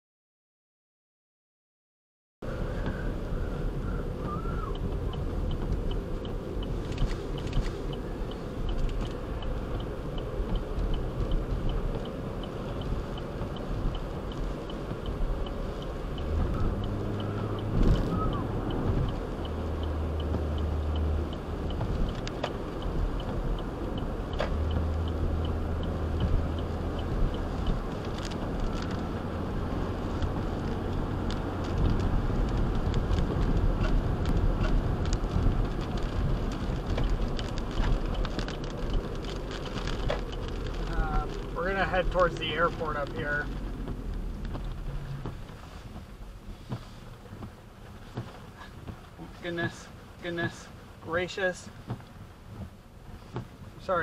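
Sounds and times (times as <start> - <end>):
road and engine hum: 2.4 - 54.0
windshield wipers: 2.5 - 54.0
rain on glass: 2.8 - 54.0
faint regular tick: 4.2 - 54.0.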